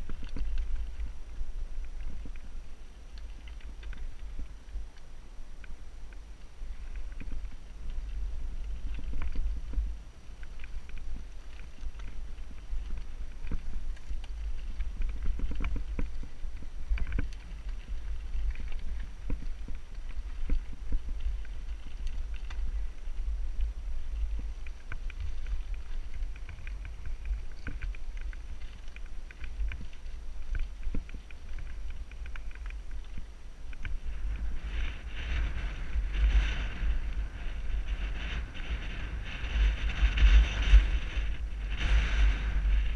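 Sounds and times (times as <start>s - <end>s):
bike clicks and rattles: 0.0s - 5.0s, 5.6s - 42.9s
wind buffeting microphone: 5.8s - 42.9s.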